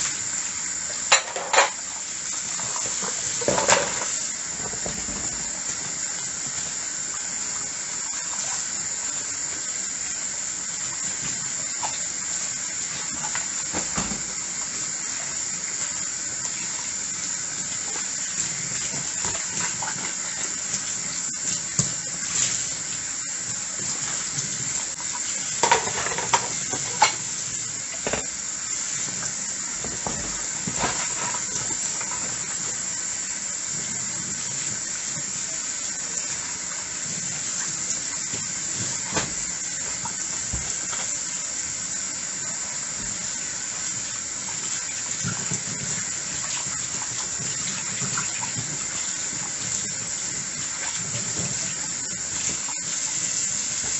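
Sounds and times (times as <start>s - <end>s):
tap water running into sink: 0.0s - 53.9s.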